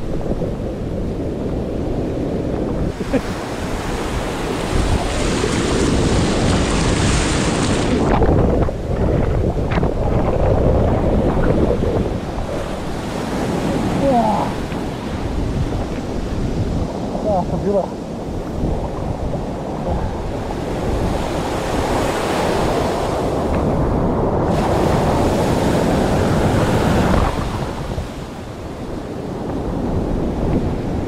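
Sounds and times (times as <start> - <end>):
surf rushing in shallows: 0.0 - 31.0
wind rumble on microphone: 0.0 - 31.0.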